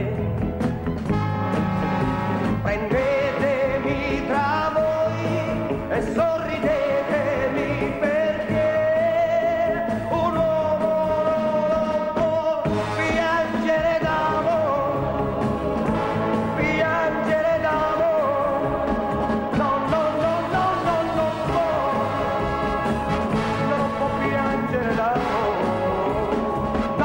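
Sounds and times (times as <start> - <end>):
man singing pop ballad: 0.0 - 0.6, 2.5 - 27.0
backing band: 0.0 - 27.0.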